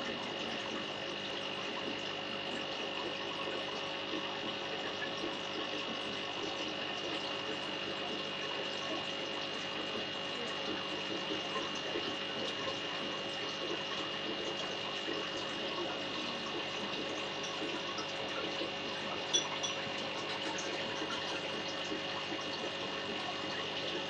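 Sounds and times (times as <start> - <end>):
trickling water from filter: 0.0 - 24.0.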